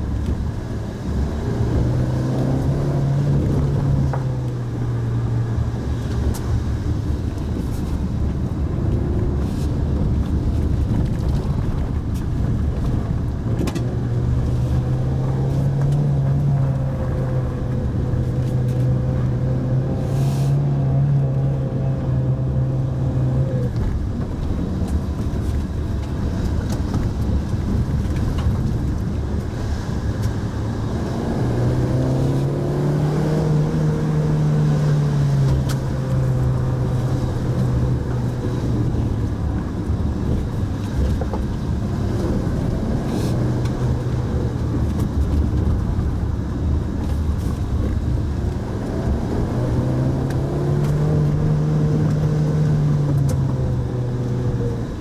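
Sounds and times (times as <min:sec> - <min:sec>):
car engine running: 0:00.0 - 0:55.0
tyres rumbling on road: 0:00.0 - 0:55.0.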